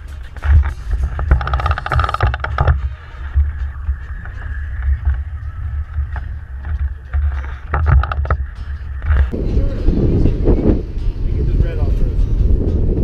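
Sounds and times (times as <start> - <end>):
boat engine noise: 0.0 - 13.0
wind buffeting microphone: 0.0 - 13.0.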